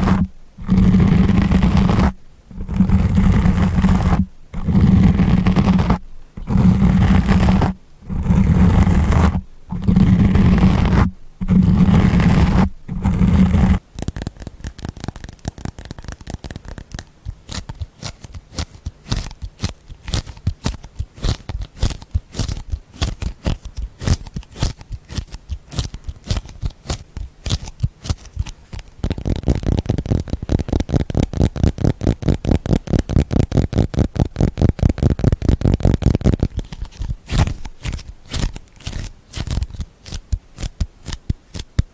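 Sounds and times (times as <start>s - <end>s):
muffled rubbing strokes: 0.0s - 41.6s
fast tapping or scratching: 0.0s - 41.9s.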